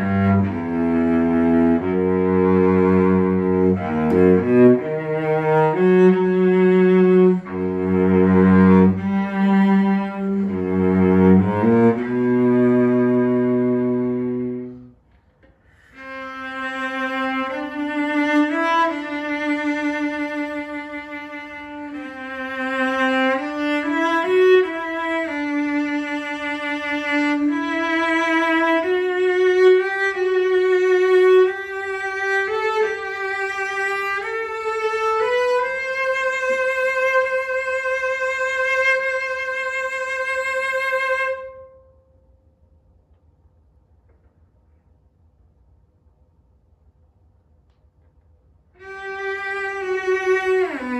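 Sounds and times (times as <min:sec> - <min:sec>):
bowed cello melody: 0:00.0 - 0:42.2, 0:48.7 - 0:50.9.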